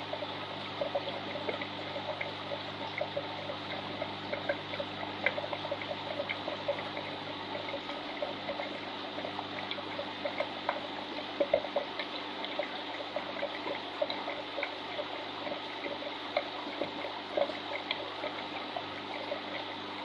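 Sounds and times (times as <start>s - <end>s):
aquarium water trickling: 0.0s - 20.0s
steady low hum: 0.0s - 20.0s.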